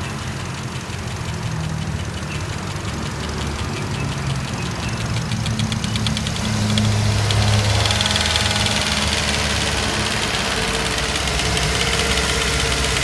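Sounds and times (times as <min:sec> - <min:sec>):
engine idling: 0:00.0 - 0:13.0
rapid even ticking: 0:00.0 - 0:13.0.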